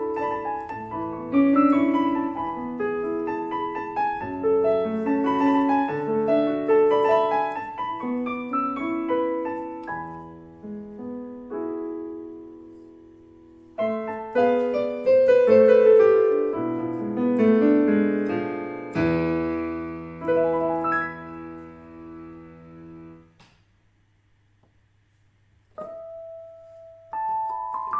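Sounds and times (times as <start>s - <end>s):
digital piano chords: 0.0s - 23.4s, 25.7s - 27.9s.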